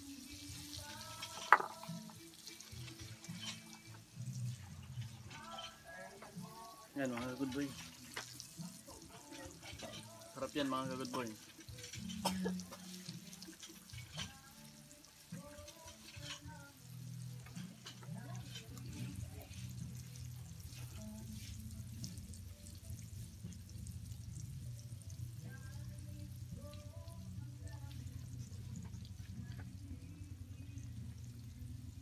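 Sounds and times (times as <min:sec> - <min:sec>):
oil sizzling in wok: 0:00.0 - 0:32.0.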